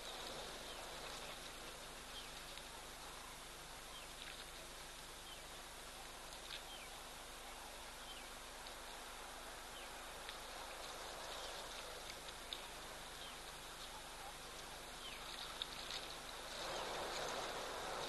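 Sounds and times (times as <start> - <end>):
small birds chirping: 0.0 - 18.0
steady hiss: 0.0 - 18.0.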